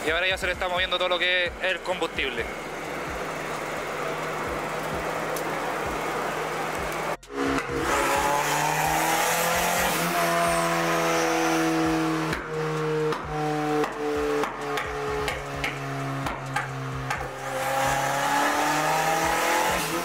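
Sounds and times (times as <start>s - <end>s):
car engine running under load: 0.0s - 20.0s.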